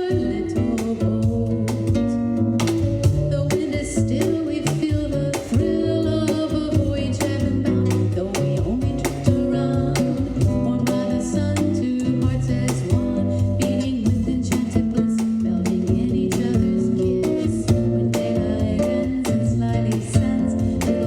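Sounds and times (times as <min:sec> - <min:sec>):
acoustic guitar bossa nova: 0:00.0 - 0:21.0.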